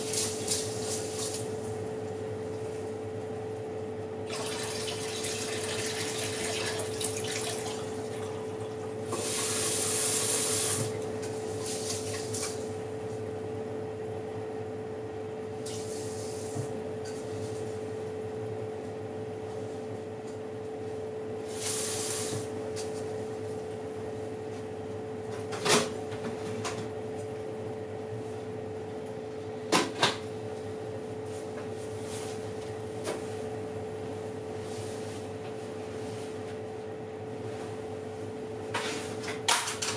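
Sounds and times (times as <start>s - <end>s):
electric oven humming: 0.0s - 39.9s.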